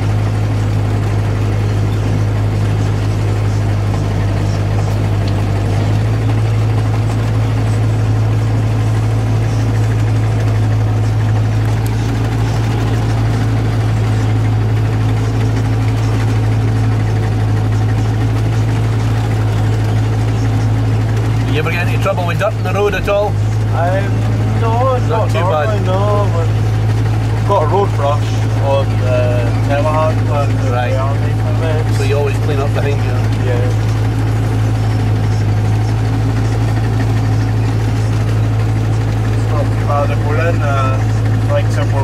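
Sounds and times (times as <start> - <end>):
tractor diesel engine droning: 0.0 - 42.0.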